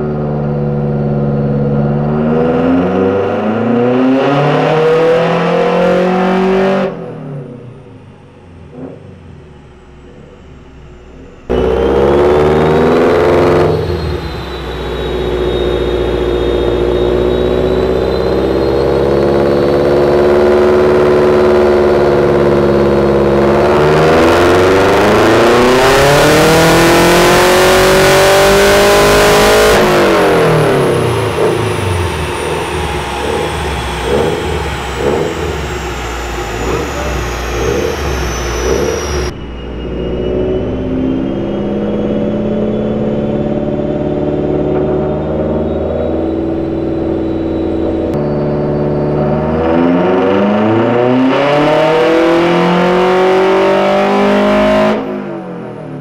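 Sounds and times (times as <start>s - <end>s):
turbocharged engine on dyno: 0.0s - 56.0s.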